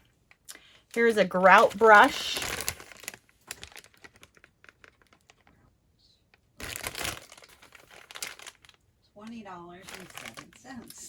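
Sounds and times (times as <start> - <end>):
packaging crinkling and rustling: 0.0 - 5.6, 6.3 - 8.8, 9.8 - 11.0.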